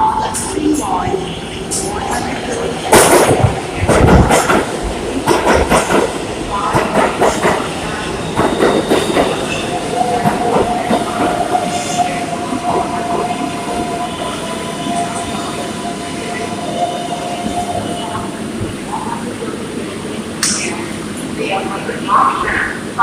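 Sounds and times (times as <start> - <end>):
subway train on rails: 0.0 - 23.0.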